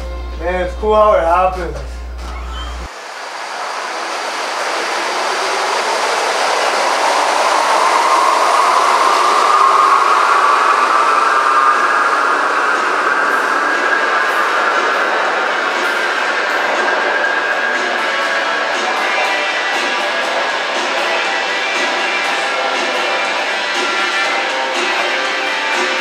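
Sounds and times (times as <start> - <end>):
rising whine: 1.9 - 26.0
subway train running: 2.0 - 26.0.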